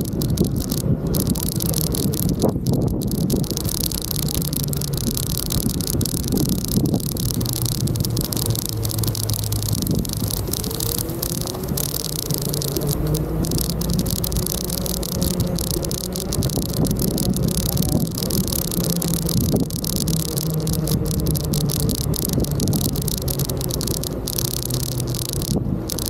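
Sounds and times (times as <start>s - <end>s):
low engine hum: 0.0s - 26.0s
rattling hiss: 0.0s - 26.0s.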